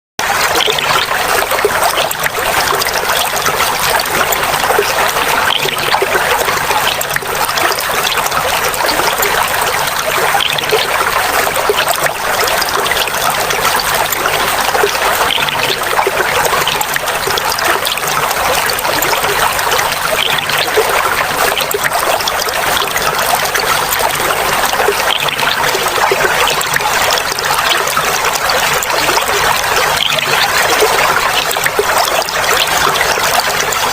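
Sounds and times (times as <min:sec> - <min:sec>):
water babbling over rocks: 0:00.2 - 0:33.9.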